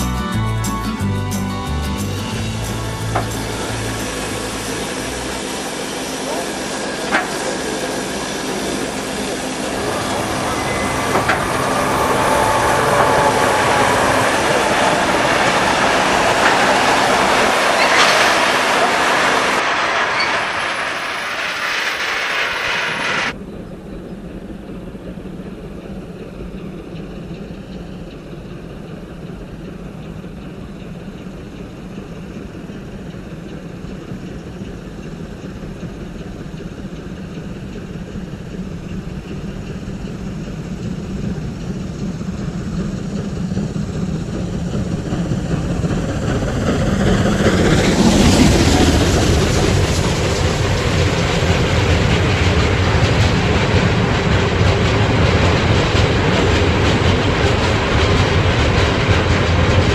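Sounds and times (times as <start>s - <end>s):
distant steam locomotive rumble: 0.0s - 59.9s
freight train rumbling close by: 0.0s - 59.9s.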